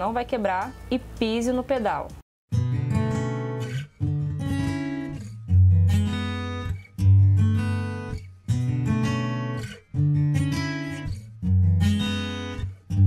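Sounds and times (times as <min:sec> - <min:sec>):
acoustic guitar strumming chords: 0:02.5 - 0:13.0.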